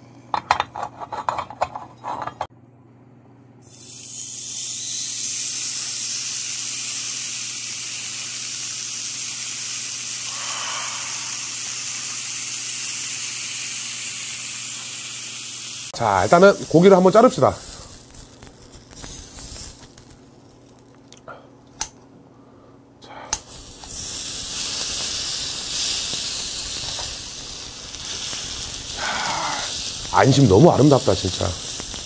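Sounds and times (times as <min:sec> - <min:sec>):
steak sizzling in pan: 0:03.6 - 0:21.0, 0:23.4 - 0:32.0.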